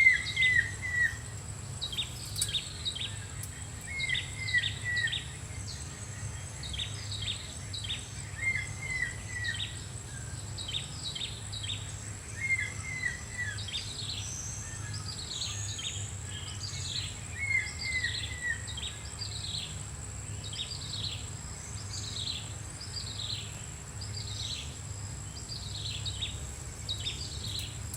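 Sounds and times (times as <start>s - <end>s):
birds chirping: 0.0s - 27.9s
high insect drone: 0.0s - 27.9s.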